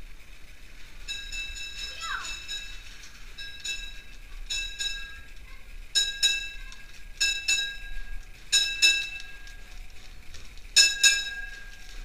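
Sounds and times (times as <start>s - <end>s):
bright metallic clinks: 0.9s - 9.9s, 10.7s - 12.0s.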